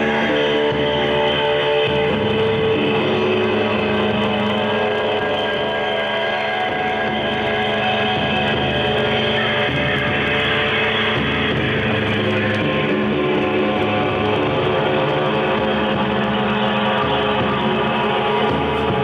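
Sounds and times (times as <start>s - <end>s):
layered sustained drone tones: 0.0s - 19.0s
low droning bass: 0.0s - 19.0s.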